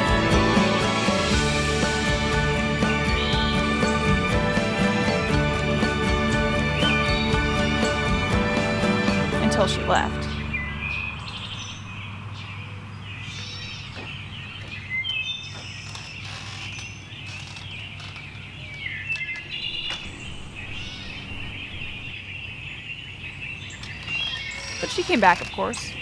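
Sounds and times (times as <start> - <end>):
birds chirping and calling: 2.0 - 26.0.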